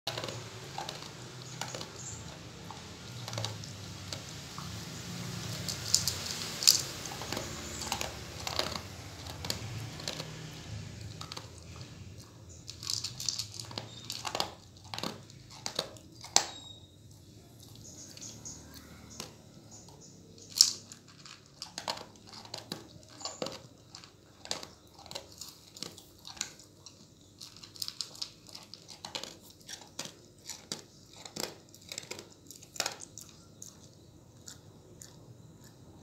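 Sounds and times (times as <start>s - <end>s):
dog crunching dry kibble: 0.1s - 36.0s.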